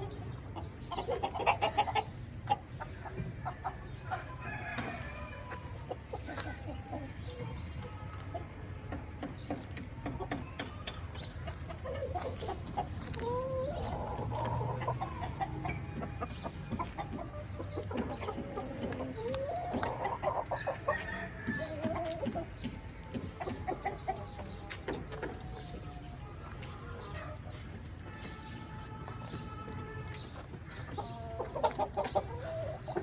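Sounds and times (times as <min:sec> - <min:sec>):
chicken clucking: 0:00.0 - 0:33.0.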